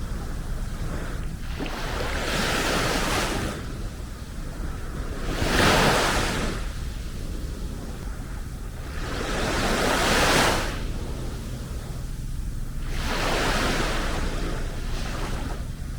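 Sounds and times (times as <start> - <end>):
sea waves breaking on beach: 0.0 - 8.0, 8.7 - 12.0, 12.7 - 15.9.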